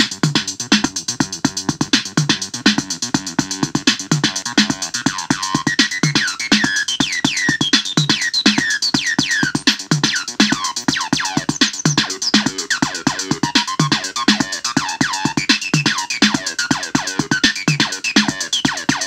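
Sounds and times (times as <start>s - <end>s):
acid synth bassline: 0.0s - 19.0s
drum machine beat with hi-hats: 0.0s - 19.0s.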